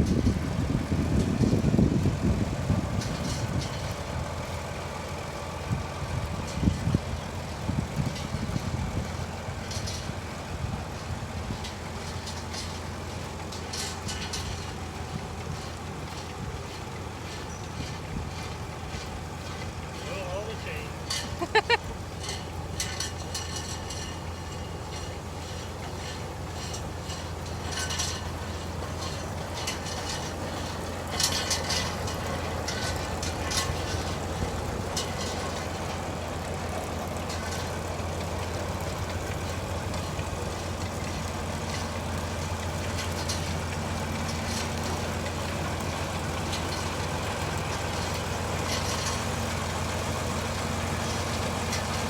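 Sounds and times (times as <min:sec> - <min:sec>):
clanks and rattles: 0:00.0 - 0:52.0
engine droning: 0:00.0 - 0:52.0.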